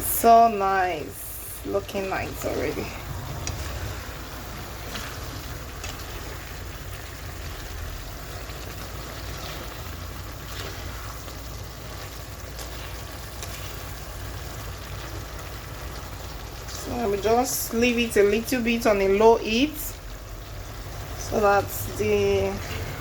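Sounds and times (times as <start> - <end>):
sauce sizzling in a pan: 0.0 - 23.0.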